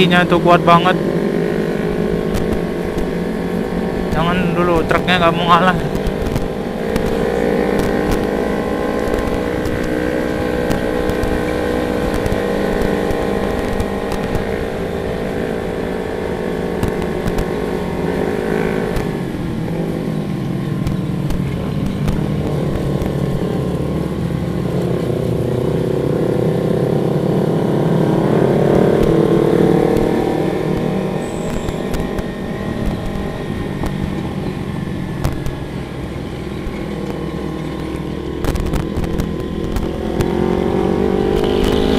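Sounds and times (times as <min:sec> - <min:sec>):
wind noise: 0:00.0 - 0:26.6, 0:28.2 - 0:41.9
motorcycle engine running: 0:00.0 - 0:41.9.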